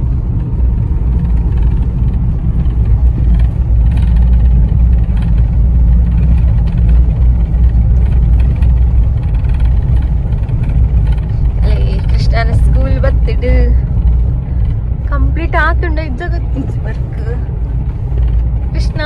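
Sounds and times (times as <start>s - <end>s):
tyres on dirt road: 0.0s - 19.0s
vehicle engine rumbling: 0.0s - 19.0s.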